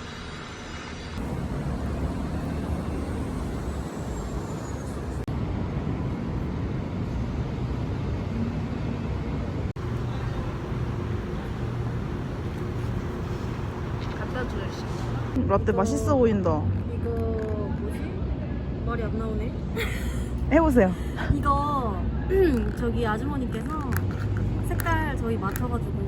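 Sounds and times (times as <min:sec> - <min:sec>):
low rumble of vehicle noise: 0:00.0 - 0:26.0.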